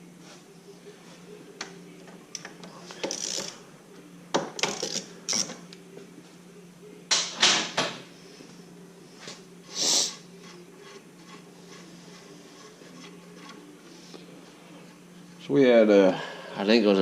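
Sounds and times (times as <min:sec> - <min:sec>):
steady low hum: 0:00.0 - 0:07.2, 0:08.0 - 0:17.0.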